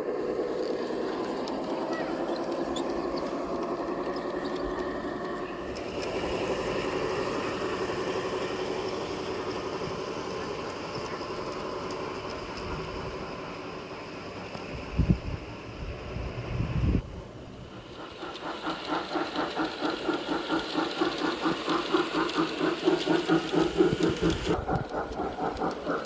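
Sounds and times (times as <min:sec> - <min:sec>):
model train rolling on track: 0:00.0 - 0:26.0.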